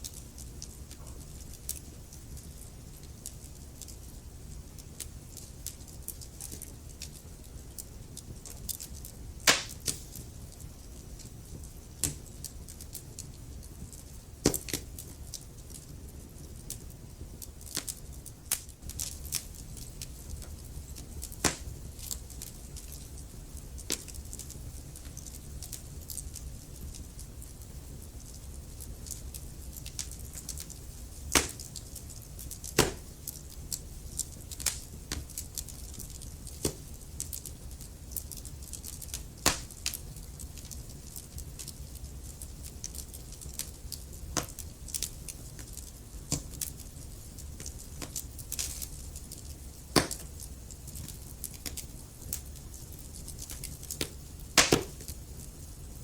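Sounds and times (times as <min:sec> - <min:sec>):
fire popping and snapping: 0:00.0 - 0:56.0
low rumble of burning fire: 0:00.0 - 0:56.0
wood fire crackling: 0:00.0 - 0:56.0.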